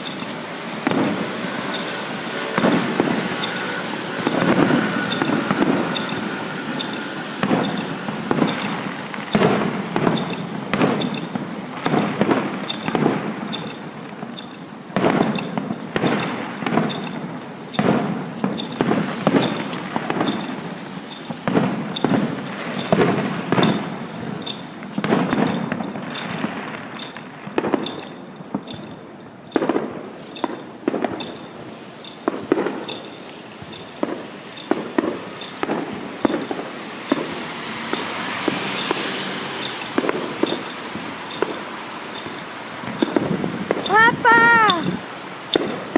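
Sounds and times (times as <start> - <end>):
fireworks bangs and cracks: 0.0 - 45.9.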